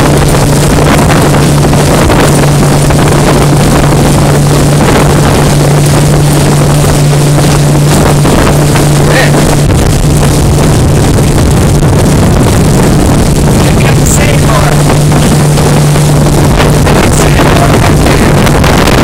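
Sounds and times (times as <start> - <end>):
outboard motor droning: 0.0 - 19.0
rushing water: 0.0 - 19.0
wind on microphone: 0.0 - 19.0.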